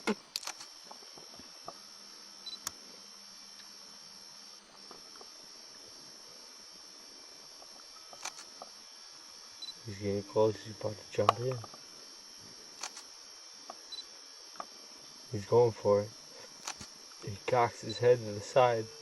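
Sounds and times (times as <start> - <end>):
night insects droning: 0.0 - 19.0.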